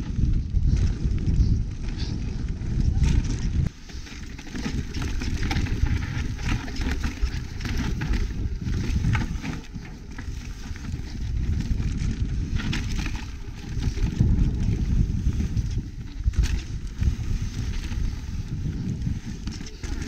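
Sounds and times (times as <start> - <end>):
bike clicking and rattling: 0.0 - 20.0
bike tyres rumbling on dirt: 0.0 - 20.0.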